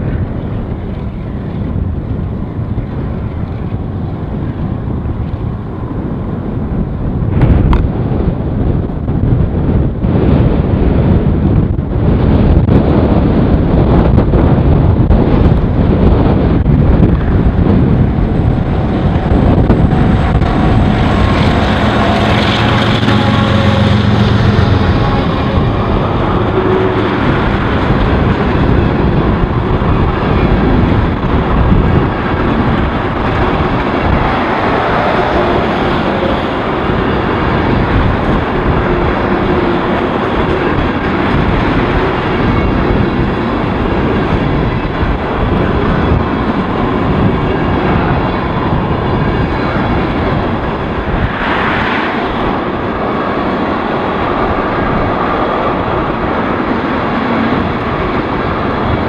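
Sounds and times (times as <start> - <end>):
diesel locomotive engine hum: 0.0 - 59.0
train cars rumbling on rails: 0.0 - 59.0.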